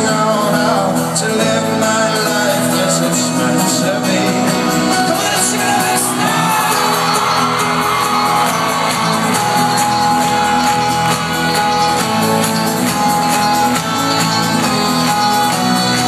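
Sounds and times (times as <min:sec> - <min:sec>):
crowd shouting and singing along: 0:00.0 - 0:16.0
folk-rock band playing live: 0:00.0 - 0:16.0.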